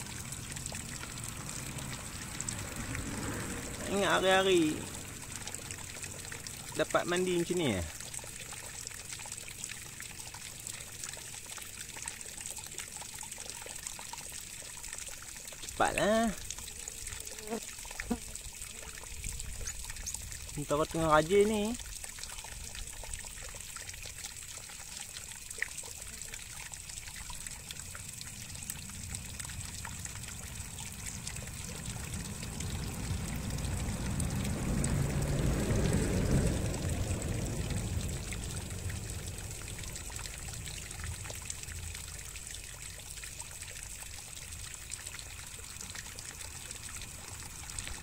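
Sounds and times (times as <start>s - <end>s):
water trickling and pouring: 0.0s - 48.0s.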